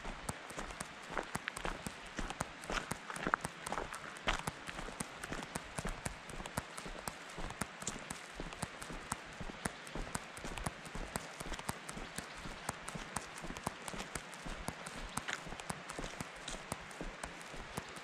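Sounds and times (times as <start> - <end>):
footsteps on gravel and leaves: 0.0 - 18.0.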